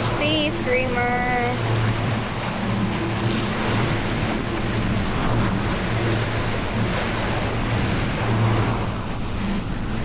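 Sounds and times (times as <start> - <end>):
motorboat engine humming: 0.0 - 10.0
water passing hull: 0.0 - 10.0.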